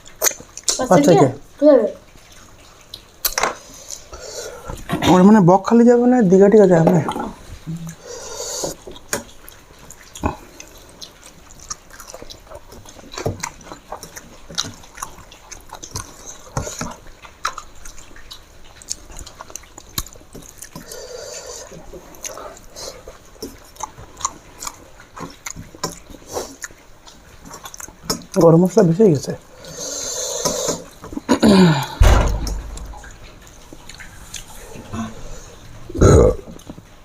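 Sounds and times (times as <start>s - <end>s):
chewing sounds: 0.0s - 1.3s, 2.0s - 5.0s, 6.8s - 37.0s.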